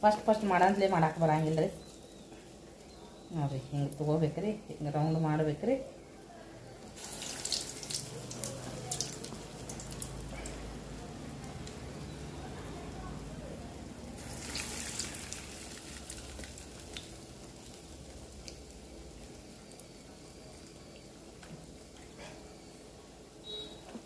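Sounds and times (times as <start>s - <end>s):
food deep-frying in hot oil: 0.0s - 23.8s.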